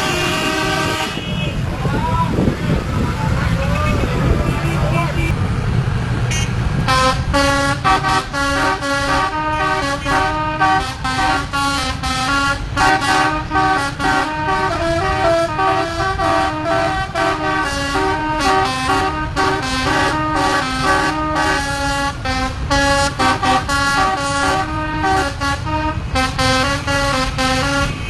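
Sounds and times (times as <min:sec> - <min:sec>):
multi-tone air horn tune: 0:00.0 - 0:01.6, 0:06.3 - 0:28.0
road and engine rumble: 0:00.0 - 0:28.0.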